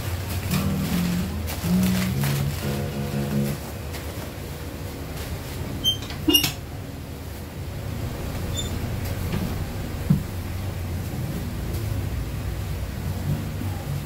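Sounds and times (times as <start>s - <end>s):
bubble wrap and plastic rustling: 0.0s - 14.0s
steady low hum: 0.0s - 14.0s.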